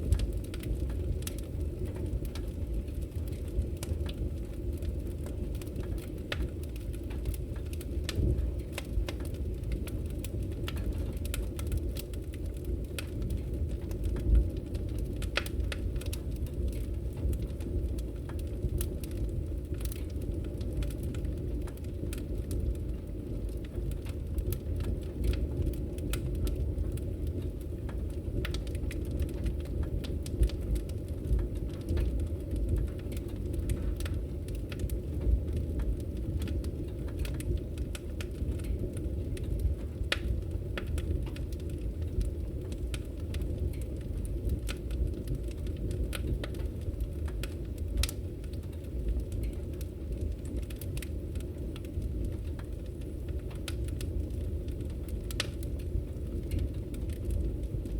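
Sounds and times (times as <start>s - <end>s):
low rumble of flames: 0.0s - 57.9s
wood fire pops and snaps: 0.0s - 57.9s.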